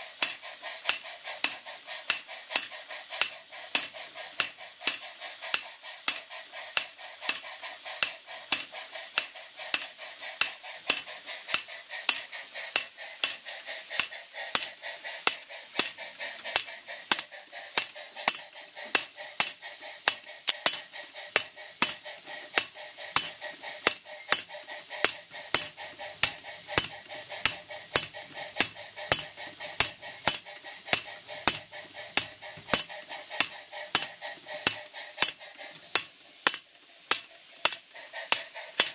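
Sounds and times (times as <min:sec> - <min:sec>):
engine and belts hissing and whirring: 0:00.0 - 0:38.9.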